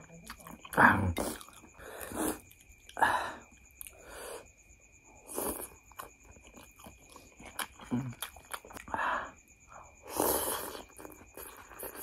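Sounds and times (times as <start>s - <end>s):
chewing: 0.0s - 4.1s, 5.3s - 9.0s, 10.1s - 12.0s.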